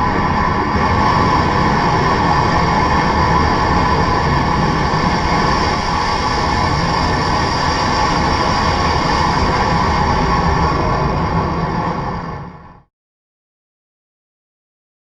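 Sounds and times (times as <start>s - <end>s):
rocket engine roaring: 0.0s - 12.9s.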